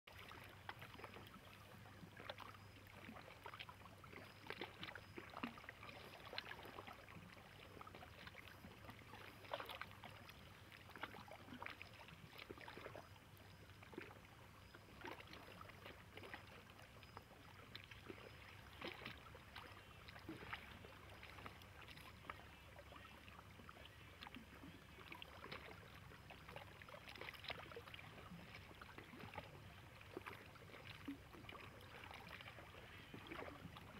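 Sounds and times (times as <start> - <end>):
lake water lapping: 0.1 - 33.9
small water splashes: 0.1 - 33.9.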